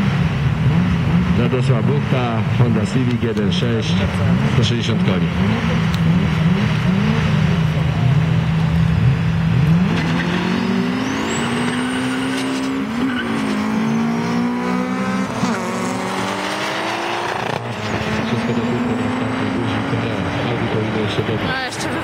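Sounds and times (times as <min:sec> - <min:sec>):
cars accelerating hard: 0:00.0 - 0:22.0.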